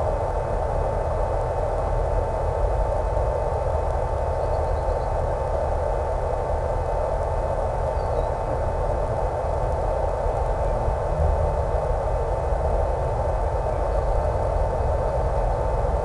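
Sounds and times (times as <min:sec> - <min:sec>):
wind hiss and static: 0:00.0 - 0:16.0.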